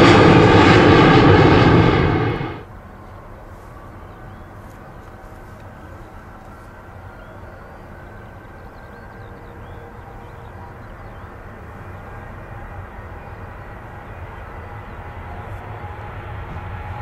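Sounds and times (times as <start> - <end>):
jet engines rumbling at takeoff: 0.0 - 17.0.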